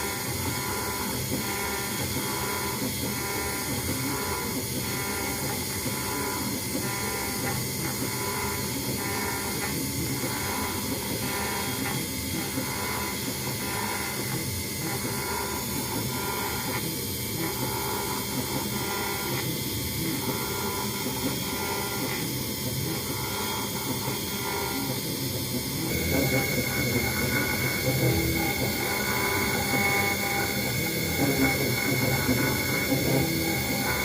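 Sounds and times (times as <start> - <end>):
engraving router cutting metal: 0.0 - 34.0
high steady whine: 0.0 - 34.0.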